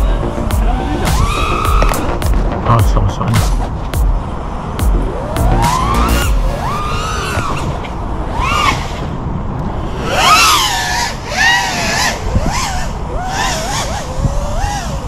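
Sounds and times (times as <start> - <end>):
drone motors whining: 0.0 - 15.0
wind rushing over microphone: 0.0 - 15.0.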